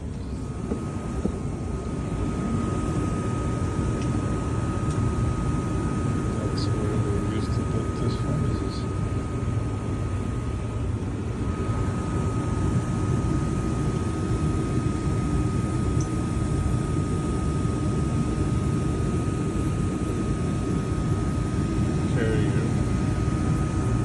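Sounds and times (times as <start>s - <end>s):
furnace rumbling: 0.0s - 20.2s
high whine: 0.0s - 24.0s.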